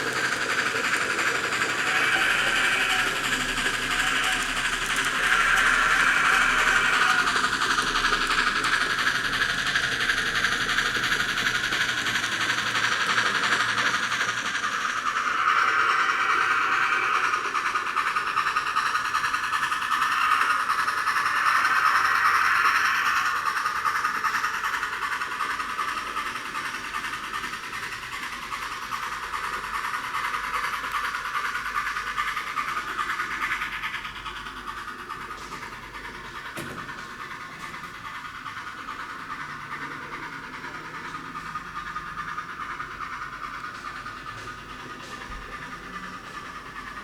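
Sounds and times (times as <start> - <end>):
model train running on track: 0.0 - 47.0.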